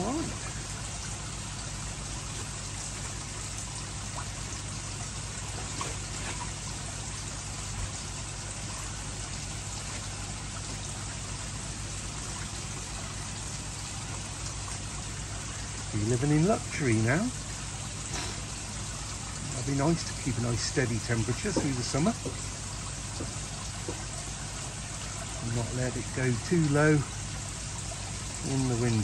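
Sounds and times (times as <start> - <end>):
low steady hum: 0.0 - 29.0
water trickling into a pond: 0.0 - 29.0.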